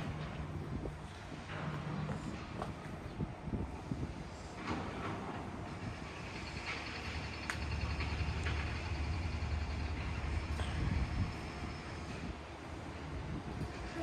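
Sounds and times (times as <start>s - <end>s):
heavy vehicle rumble: 0.0s - 14.0s.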